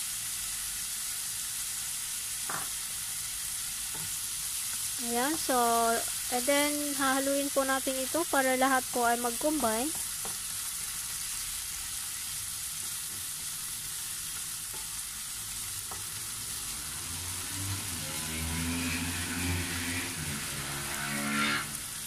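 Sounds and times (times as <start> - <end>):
pork sizzling in a pan: 0.0 - 22.0.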